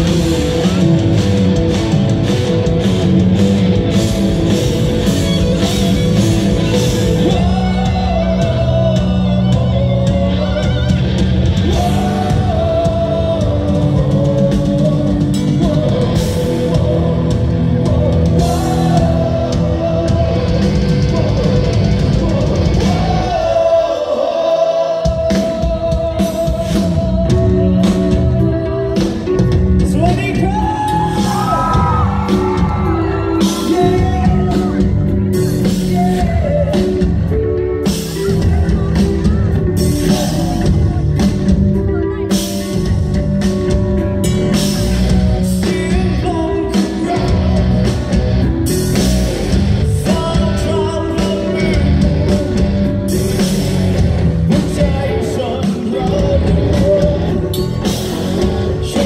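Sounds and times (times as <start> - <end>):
rock band playing live: 0.0 - 59.0
person singing lead vocal: 3.9 - 59.0.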